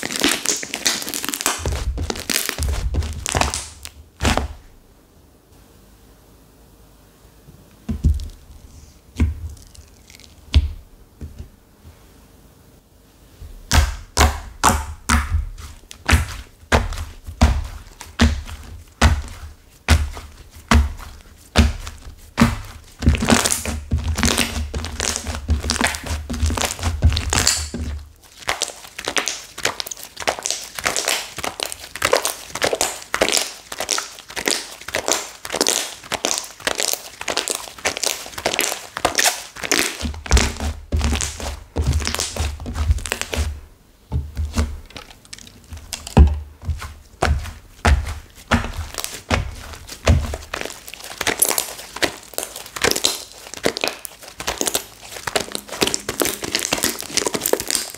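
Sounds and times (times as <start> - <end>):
clay slime squeezed by hand: 0.0 - 4.6, 13.6 - 43.6, 44.2 - 57.9.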